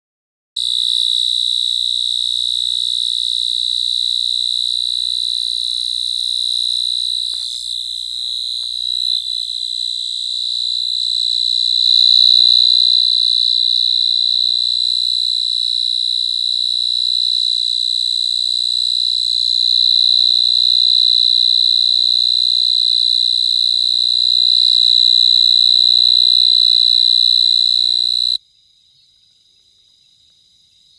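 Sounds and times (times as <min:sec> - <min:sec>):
cricket trilling: 0:00.6 - 0:30.9.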